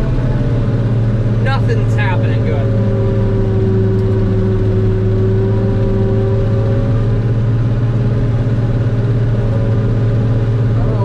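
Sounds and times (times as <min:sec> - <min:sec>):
diesel engine humming: 0:00.0 - 0:11.0
high whine: 0:00.0 - 0:11.0.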